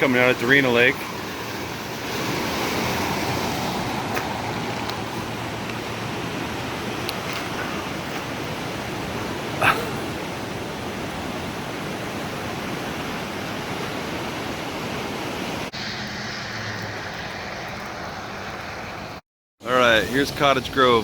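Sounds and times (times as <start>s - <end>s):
river rushing roar: 0.0s - 19.2s.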